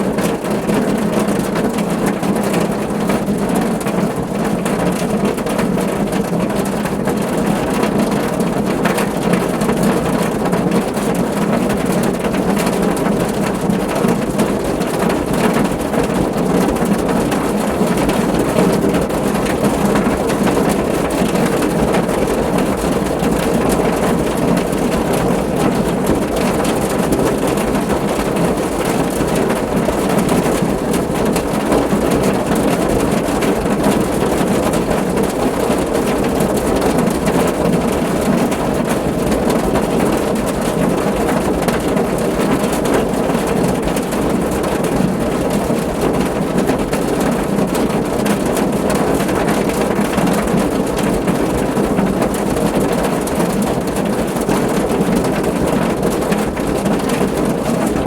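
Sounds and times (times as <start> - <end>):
heavy rain on a car roof: 0.0 - 58.0.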